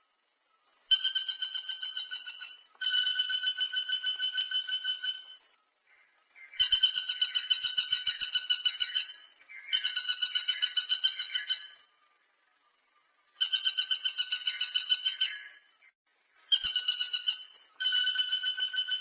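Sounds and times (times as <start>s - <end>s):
woodpecker calling: 0.4s - 12.0s, 13.2s - 19.0s.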